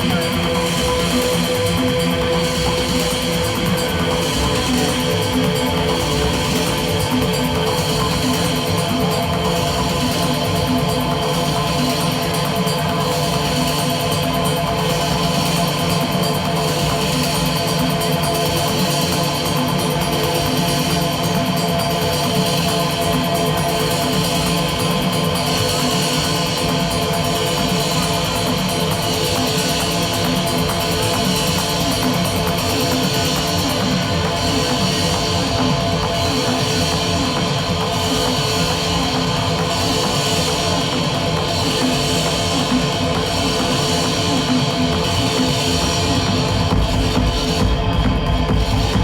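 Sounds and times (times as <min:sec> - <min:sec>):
industrial techno: 0:00.0 - 0:49.0.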